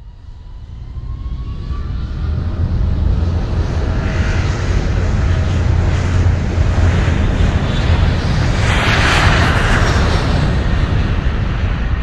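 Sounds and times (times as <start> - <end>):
aircraft engine roar: 0.0 - 12.0.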